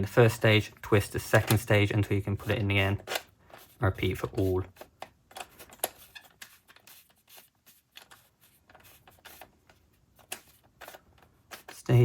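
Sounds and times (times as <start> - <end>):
soft plastic scraping: 1.2 - 12.0.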